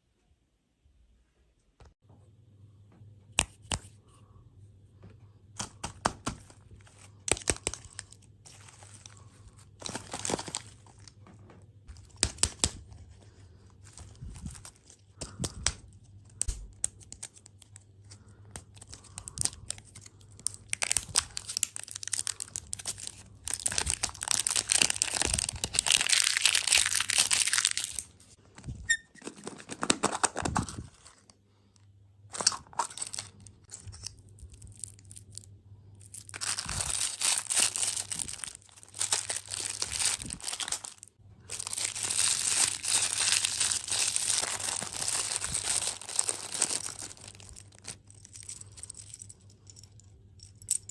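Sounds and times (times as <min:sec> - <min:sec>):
plastic packaging crinkling and tearing: 0:06.3 - 0:28.4, 0:29.2 - 0:31.4, 0:32.3 - 0:49.2.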